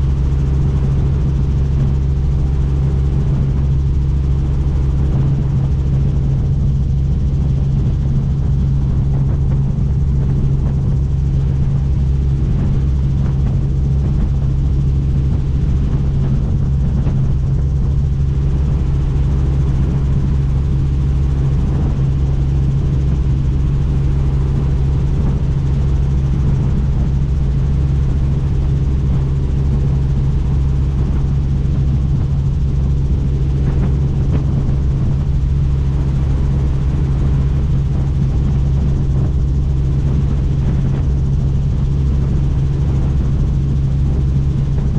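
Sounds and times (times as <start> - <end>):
helicopter rotor and engine drone: 0.0 - 44.9.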